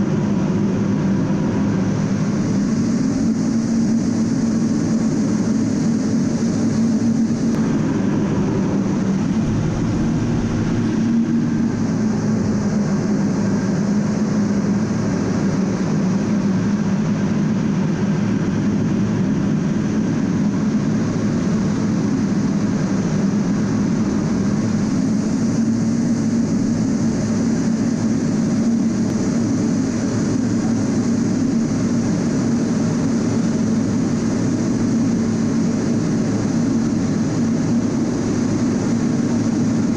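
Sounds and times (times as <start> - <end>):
jet cockpit engine drone: 0.0 - 39.9
rushing air: 0.0 - 39.9.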